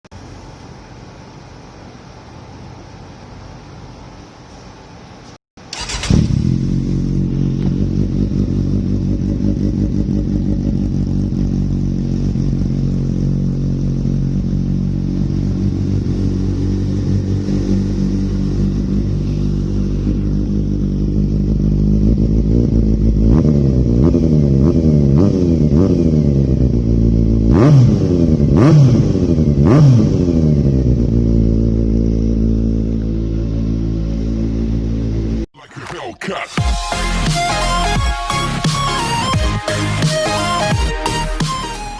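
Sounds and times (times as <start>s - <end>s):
motorcycle engine idling and revving: 5.6s - 35.5s, 36.6s - 41.9s.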